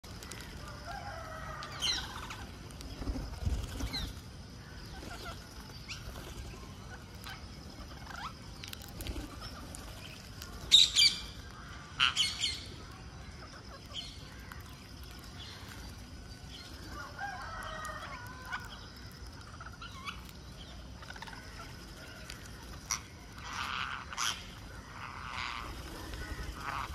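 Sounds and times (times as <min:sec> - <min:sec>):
wingbeats: 0:00.0 - 0:26.9.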